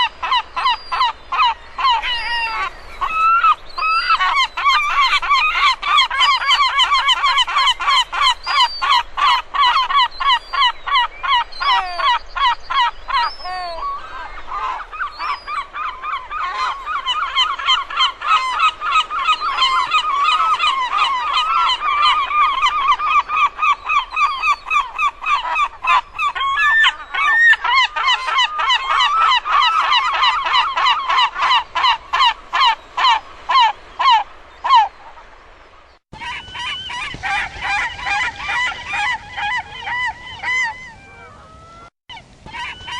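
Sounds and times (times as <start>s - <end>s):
seagulls calling: 0.0s - 42.9s.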